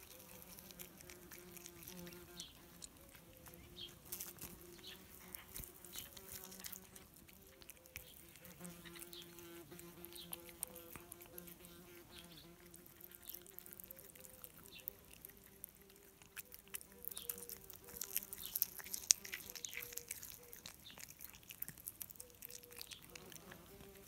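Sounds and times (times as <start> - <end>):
cat chewing and licking: 0.0 - 24.0.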